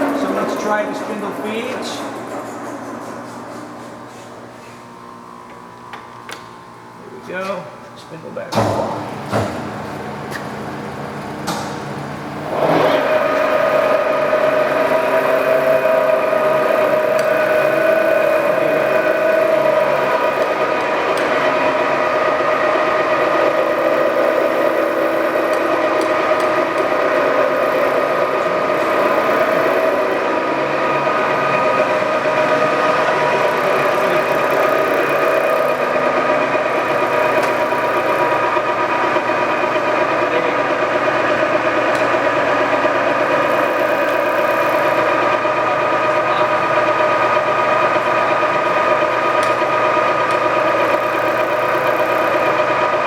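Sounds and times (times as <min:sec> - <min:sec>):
milling machine whine: 0:00.0 - 0:53.0.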